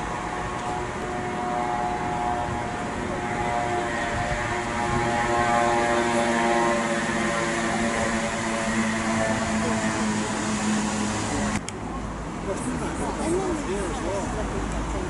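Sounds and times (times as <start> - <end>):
paddle steamer engine drone: 0.0 - 15.0.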